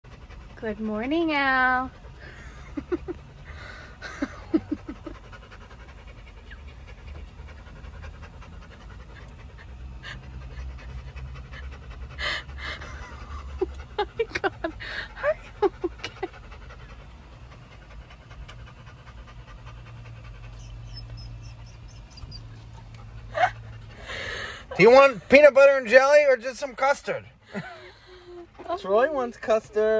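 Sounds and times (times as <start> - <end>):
dog panting: 0.0 - 29.9
low steady hum: 0.1 - 29.9.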